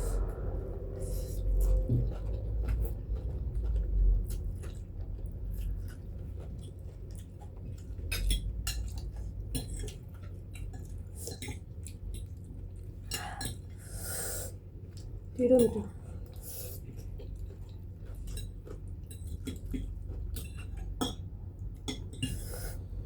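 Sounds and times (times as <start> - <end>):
people chewing: 0.0 - 15.3, 16.2 - 23.0.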